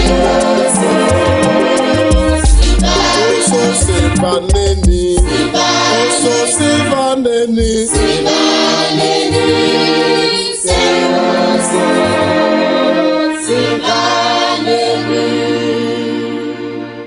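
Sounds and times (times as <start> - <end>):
church choir singing in harmony: 0.0 - 4.2, 5.2 - 7.0, 7.9 - 17.0.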